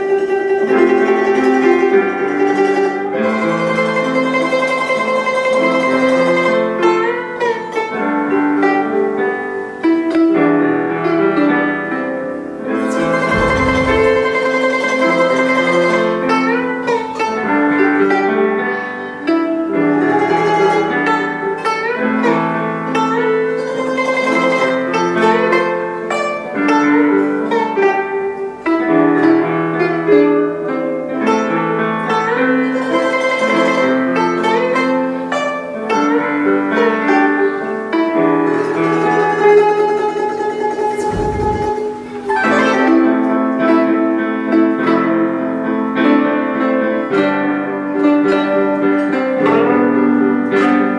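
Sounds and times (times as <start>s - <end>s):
plucked zither melody: 0.0s - 11.8s, 12.8s - 50.9s.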